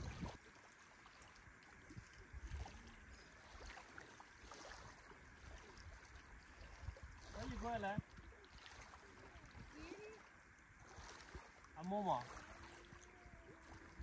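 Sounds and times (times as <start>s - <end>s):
gently running water: 0.0s - 14.0s.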